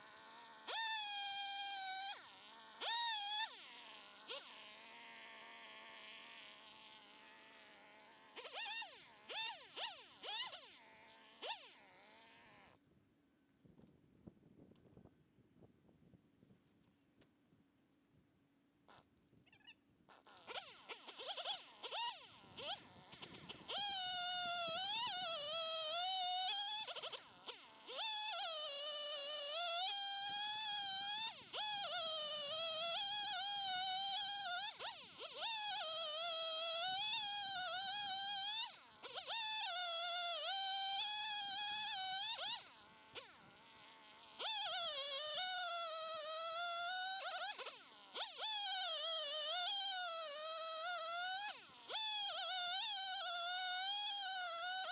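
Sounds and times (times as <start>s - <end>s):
chainsaw cutting logs: 0.0s - 12.8s, 20.1s - 54.9s.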